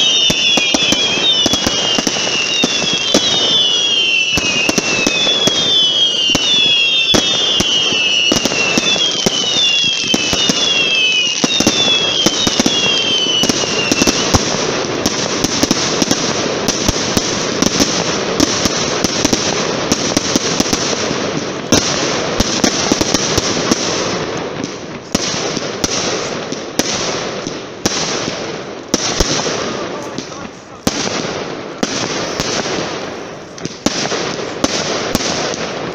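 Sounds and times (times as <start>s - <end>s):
fireworks bangs: 0.0s - 35.9s
fireworks crackling: 0.0s - 35.9s
fireworks whistling: 0.0s - 35.9s.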